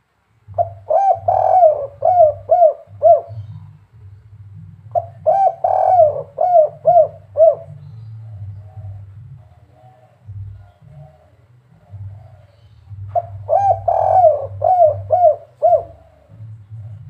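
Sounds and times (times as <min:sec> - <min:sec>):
low steady hum: 0:00.0 - 0:17.0
dove cooing: 0:00.5 - 0:17.0.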